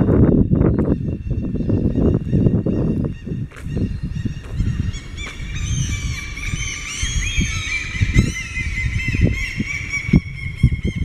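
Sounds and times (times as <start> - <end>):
gulls screeching: 0.0 - 11.0.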